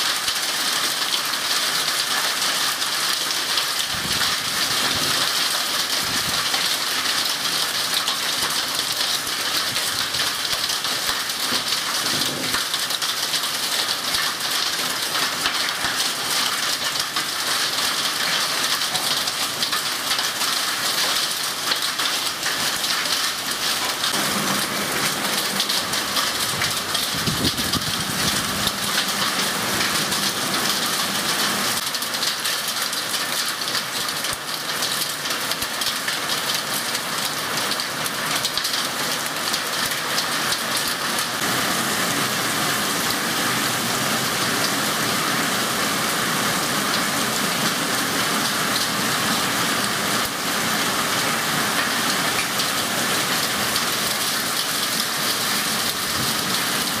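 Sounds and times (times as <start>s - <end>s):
heavy rain on tiles and foliage: 0.0s - 57.0s.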